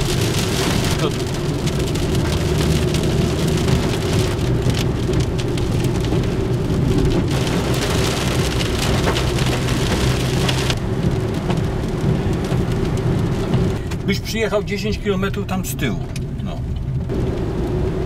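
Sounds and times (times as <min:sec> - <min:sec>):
rain on a car roof: 0:00.0 - 0:18.0
road and engine rumble: 0:00.0 - 0:18.0.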